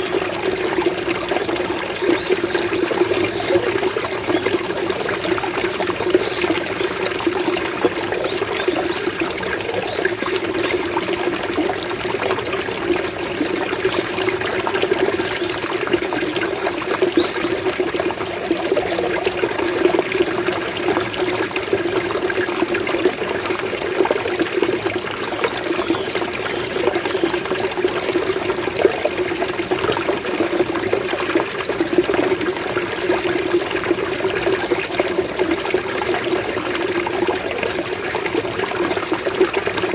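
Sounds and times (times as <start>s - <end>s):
stream bubbling over stones: 0.0s - 39.9s.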